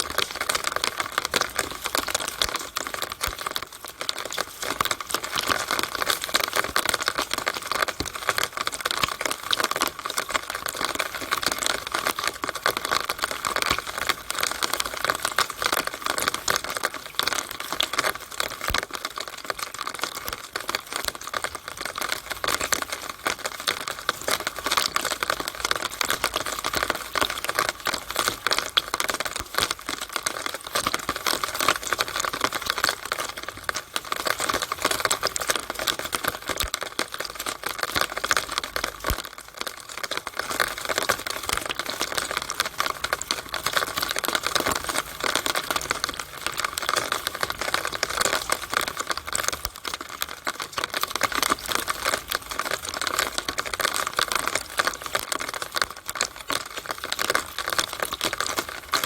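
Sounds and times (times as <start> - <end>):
rainwater running down downspout: 0.0 - 59.0.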